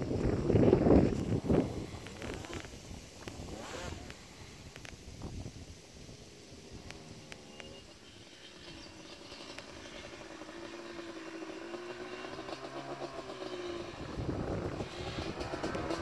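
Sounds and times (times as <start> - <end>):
quad bike two-stroke engine: 0.0 - 4.8, 5.6 - 16.0.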